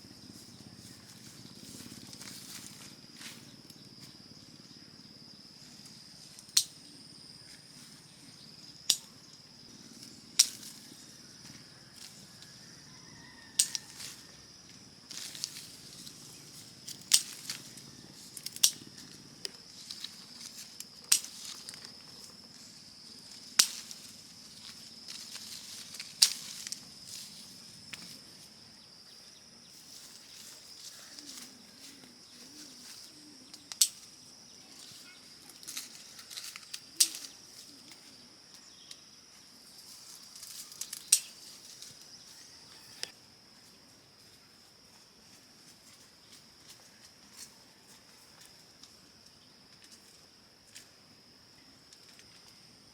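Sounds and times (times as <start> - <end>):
high-pitched insect drone: 0.0 - 52.9.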